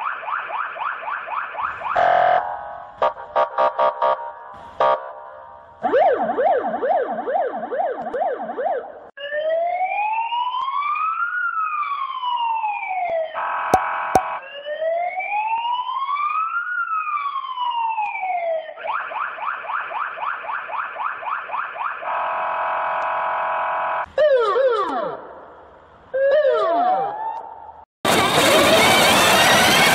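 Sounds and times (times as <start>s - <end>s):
electronic police siren: 0.0s - 4.2s, 5.8s - 25.3s, 26.2s - 29.9s.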